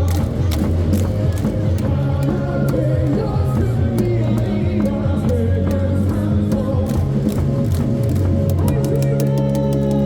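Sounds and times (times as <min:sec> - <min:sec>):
cheering music with singing over loudspeakers: 0:00.0 - 0:10.0.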